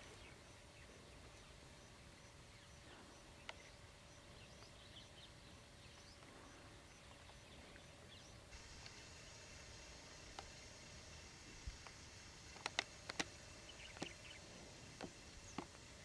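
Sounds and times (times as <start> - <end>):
small birds chirping: 0.0 - 16.0
steady hiss: 0.0 - 16.0.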